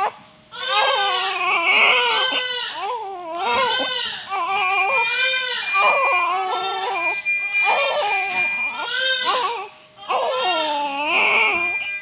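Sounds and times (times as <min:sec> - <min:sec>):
baby crying: 0:00.5 - 0:12.0.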